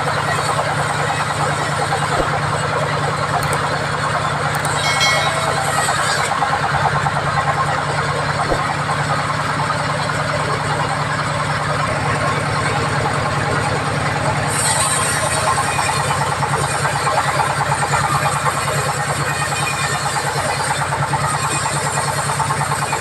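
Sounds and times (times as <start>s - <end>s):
band sawmill running: 0.0s - 23.0s.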